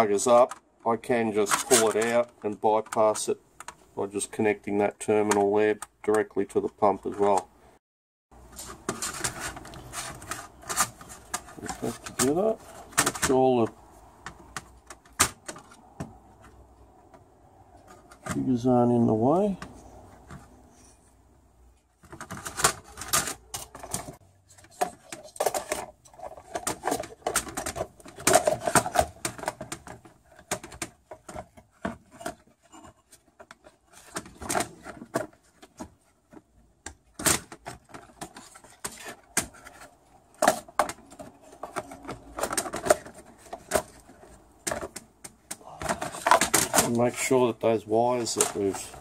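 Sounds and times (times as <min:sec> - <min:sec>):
plastic parts clicking and rattling: 0:00.1 - 0:07.5, 0:08.4 - 0:17.2, 0:21.9 - 0:49.0.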